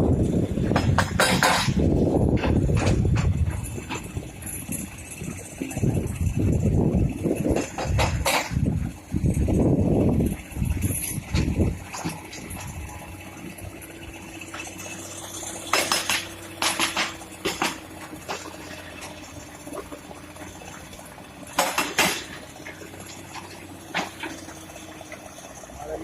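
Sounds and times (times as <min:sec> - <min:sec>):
excavator engine hum: 0:00.0 - 0:26.0
metallic clattering knocks: 0:00.6 - 0:25.8.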